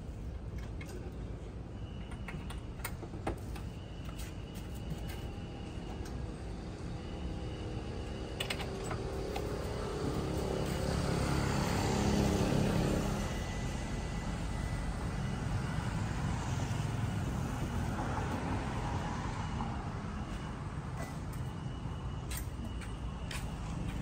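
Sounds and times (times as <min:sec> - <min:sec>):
traffic hum: 0:00.0 - 0:24.0.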